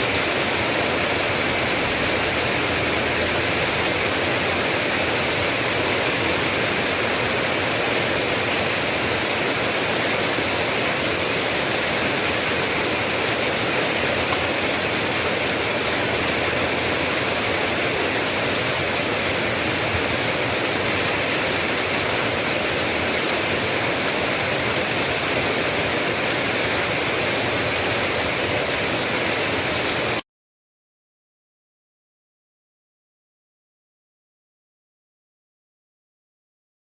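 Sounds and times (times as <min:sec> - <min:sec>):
rain hissing: 0:00.0 - 0:30.2.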